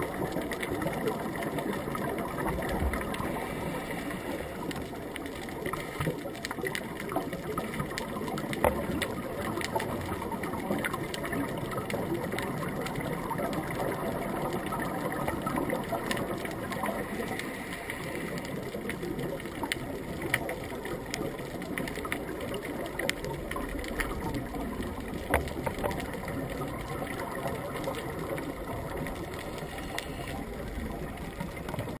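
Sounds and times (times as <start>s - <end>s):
muffled underwater rushing: 0.0s - 32.0s.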